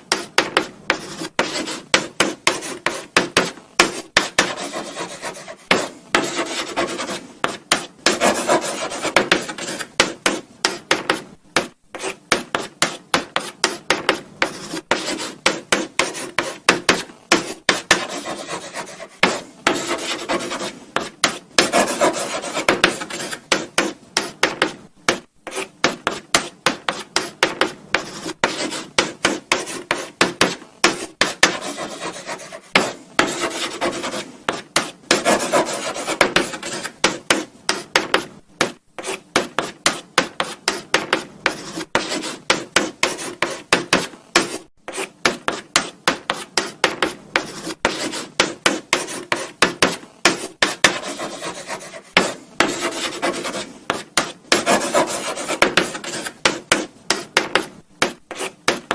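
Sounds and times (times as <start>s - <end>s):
chalk scratching on blackboard: 0.0s - 58.9s.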